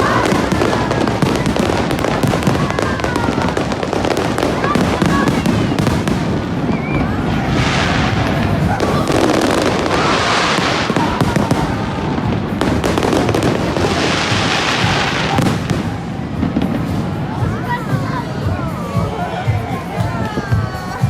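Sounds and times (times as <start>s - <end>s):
fireworks crackling and fizzing: 0.0s - 21.0s
fireworks pops and bangs: 0.0s - 21.0s.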